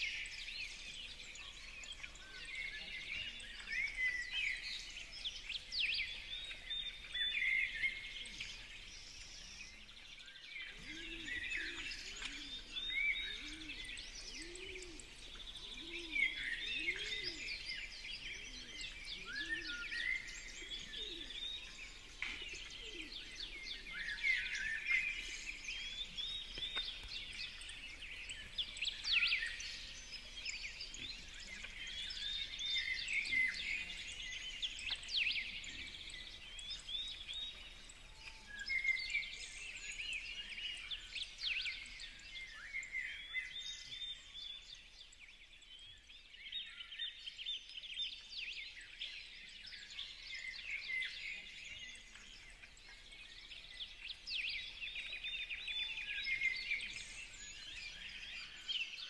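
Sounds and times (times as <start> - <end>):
sparrows chirping: 0.0 - 59.0.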